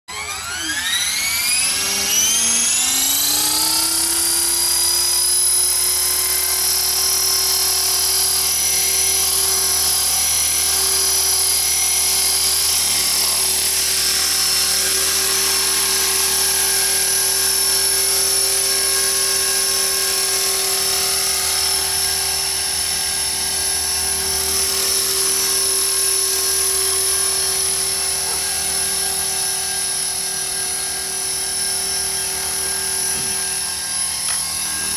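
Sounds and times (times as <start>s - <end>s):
model helicopter rotor whine: 0.1s - 34.9s.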